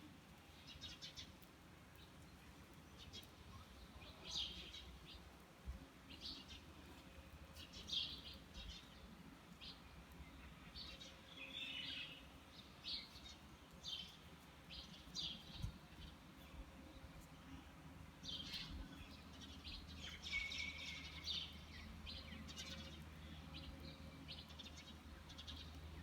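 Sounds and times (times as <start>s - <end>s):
faint steady background noise: 0.0s - 26.0s
small birds chirping: 0.0s - 26.0s.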